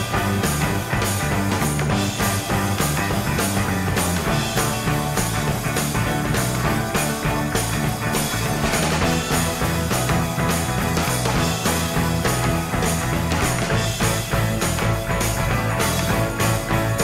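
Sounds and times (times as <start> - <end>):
rock song with guitar: 0.0 - 17.0.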